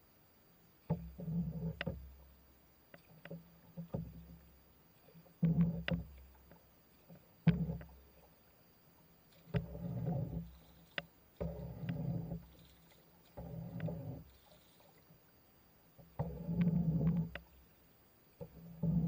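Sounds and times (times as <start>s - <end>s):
paddle swishing water: 0.6s - 19.0s.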